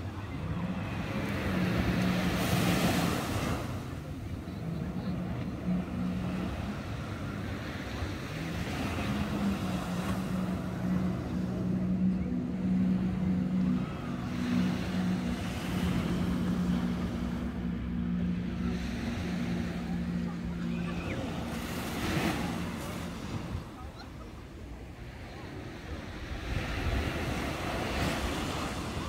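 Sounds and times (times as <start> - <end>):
motorboat engine droning: 0.0 - 29.0
small waves breaking: 0.0 - 29.0.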